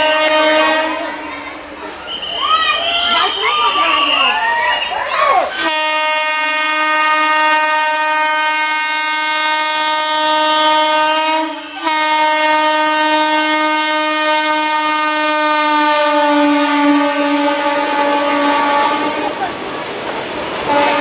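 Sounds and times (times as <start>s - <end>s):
train horn blast: 0.0s - 19.4s, 20.7s - 21.0s
train on rails: 0.0s - 21.0s.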